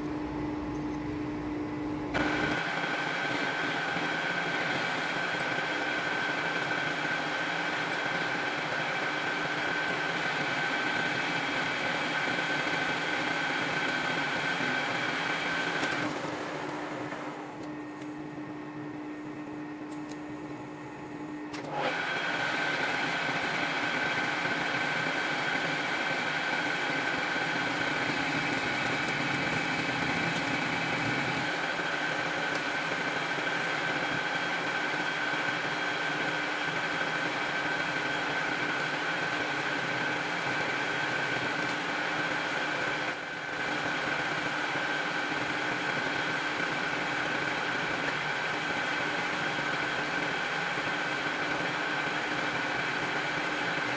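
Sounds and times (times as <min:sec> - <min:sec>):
metal lathe whining: 0:02.2 - 0:17.7, 0:21.6 - 0:53.9.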